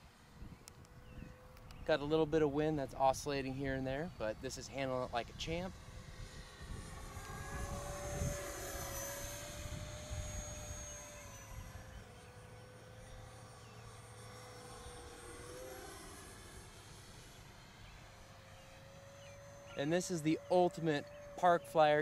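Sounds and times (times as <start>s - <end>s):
model jet fan whining: 0.0s - 22.0s.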